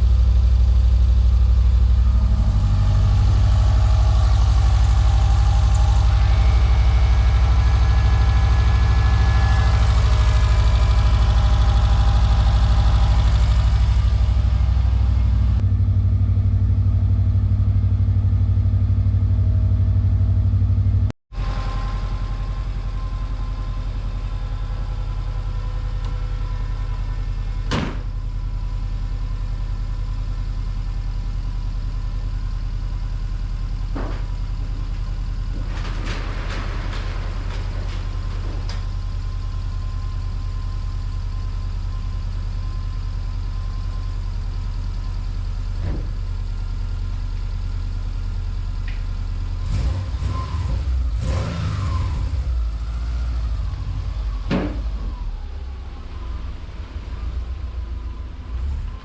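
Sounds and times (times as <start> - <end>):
car engine idling: 0.0 - 54.5.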